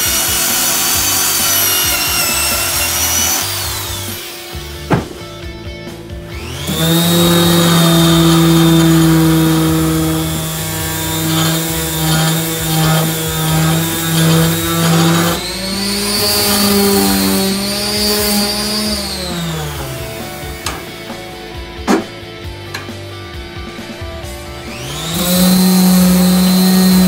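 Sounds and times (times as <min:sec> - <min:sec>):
orbital sander sanding wood: 0:00.0 - 0:05.4, 0:06.3 - 0:23.0, 0:24.6 - 0:27.0.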